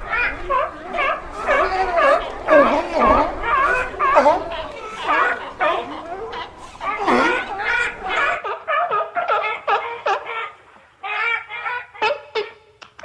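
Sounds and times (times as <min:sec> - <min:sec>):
seal yelping calls: 0:00.0 - 0:13.0.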